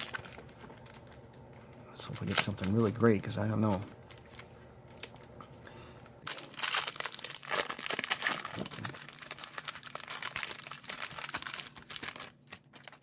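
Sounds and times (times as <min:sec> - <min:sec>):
wrapper tearing and crinkling: 0:00.0 - 0:01.4, 0:02.0 - 0:05.3, 0:06.2 - 0:13.0.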